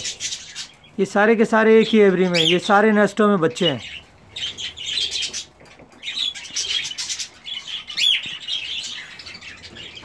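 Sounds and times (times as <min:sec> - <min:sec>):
birds chattering and chirping: 0:00.0 - 0:10.0.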